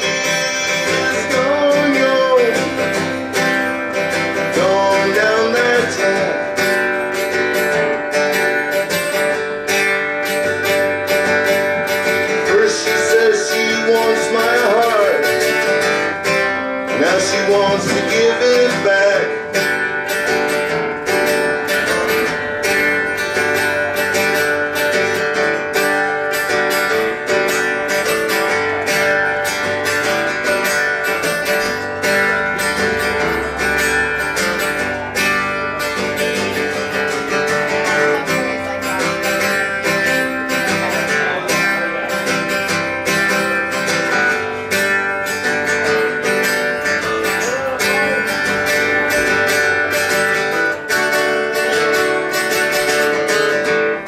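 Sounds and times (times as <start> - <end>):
instrumental band with guitar: 0.0 - 54.0.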